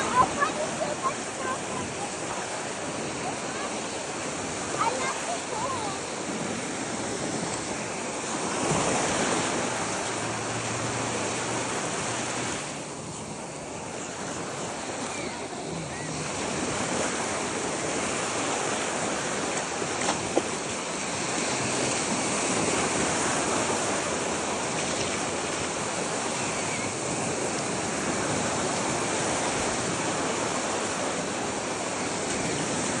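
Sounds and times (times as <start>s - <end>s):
ocean surf washing onto beach: 0.0s - 33.0s.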